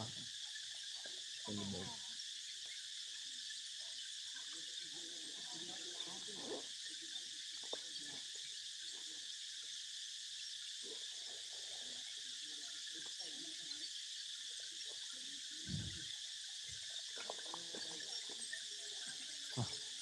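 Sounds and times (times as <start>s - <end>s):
forest insects droning: 0.0s - 20.0s.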